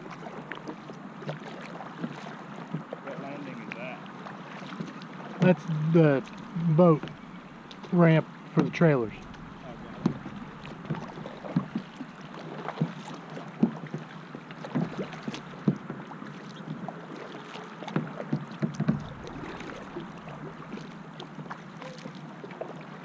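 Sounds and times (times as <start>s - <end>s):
paddle splashes and drips: 0.0s - 23.0s
wash of moving water: 0.0s - 23.0s.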